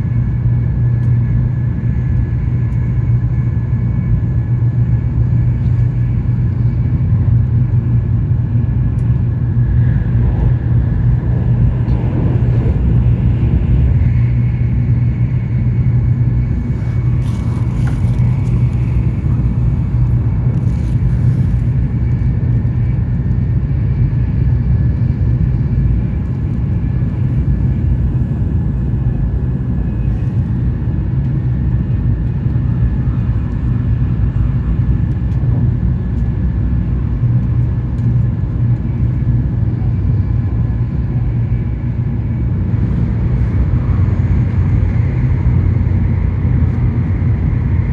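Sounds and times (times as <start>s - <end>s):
train running low rumble: 0.0s - 47.9s.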